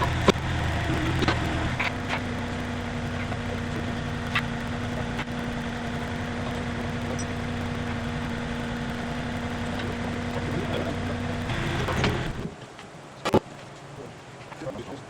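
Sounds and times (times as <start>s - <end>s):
vehicle engine idling: 0.0s - 12.5s.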